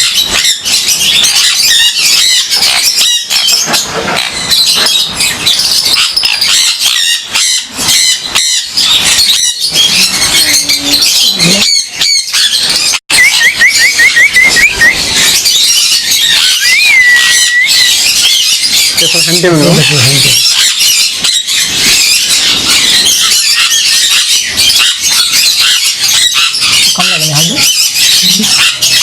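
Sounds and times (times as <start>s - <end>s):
parrots screeching and chattering: 0.0s - 29.0s.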